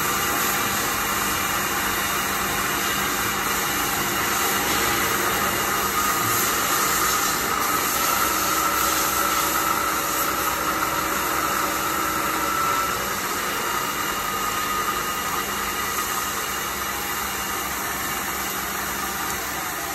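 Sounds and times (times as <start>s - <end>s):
milling machine spindle hum: 0.0s - 19.9s.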